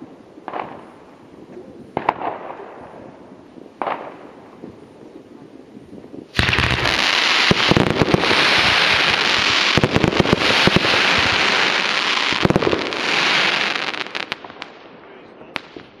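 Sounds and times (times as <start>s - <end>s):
firework hissing with sharp cracks: 0.0s - 4.9s, 6.0s - 16.0s
scattered firework crackles: 0.0s - 16.0s.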